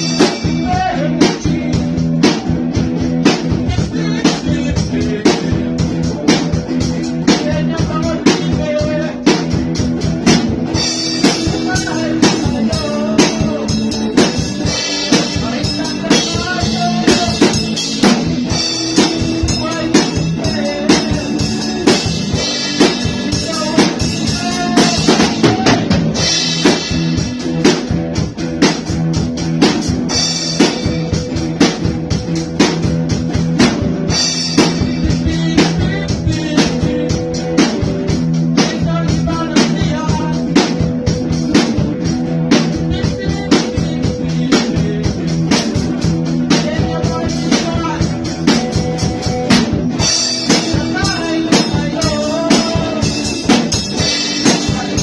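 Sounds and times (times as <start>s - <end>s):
bass: 0.0s - 55.0s
drum kit beat: 0.0s - 55.0s
guitar: 0.0s - 55.0s.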